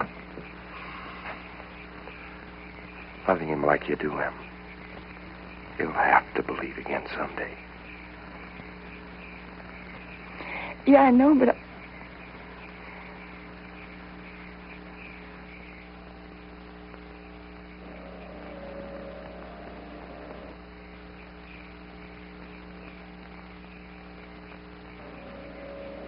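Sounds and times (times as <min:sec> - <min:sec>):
electrical mains hum: 0:00.0 - 0:26.0
faint held tones: 0:00.0 - 0:26.0.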